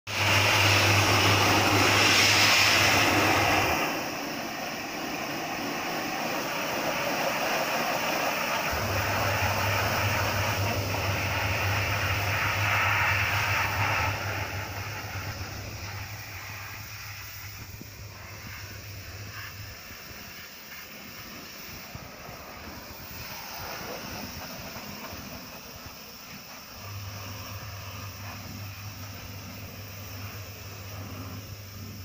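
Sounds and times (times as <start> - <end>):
low steady hum: 0.1 - 20.4, 21.9 - 32.0
pressure washer jet hissing: 0.1 - 32.0.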